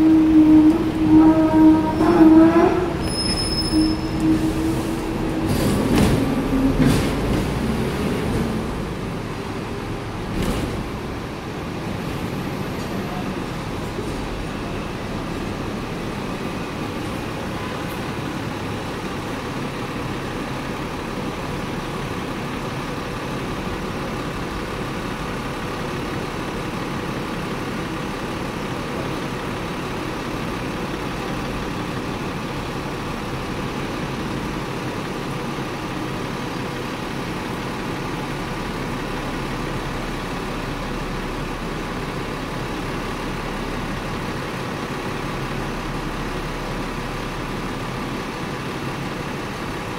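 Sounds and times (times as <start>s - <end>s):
bus diesel engine idling: 0.0s - 49.9s
street traffic noise: 0.0s - 49.9s.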